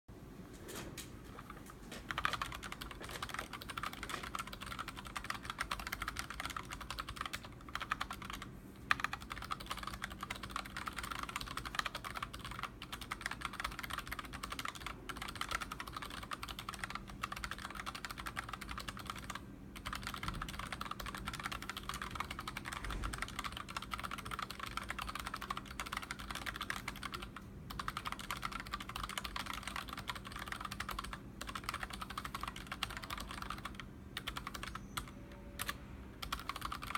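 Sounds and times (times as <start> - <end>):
mechanical keyboard typing: 1.3 - 36.9.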